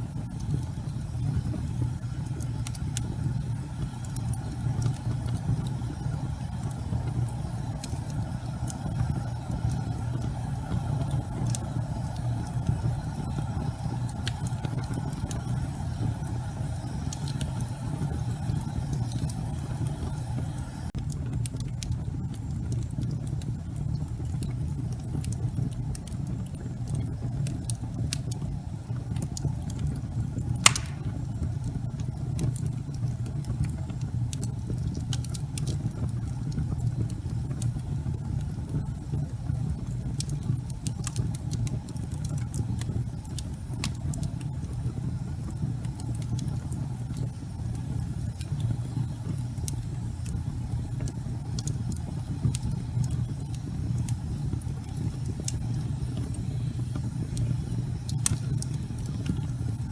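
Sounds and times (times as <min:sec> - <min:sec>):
logs crackling in fireplace: 0:00.0 - 0:59.9.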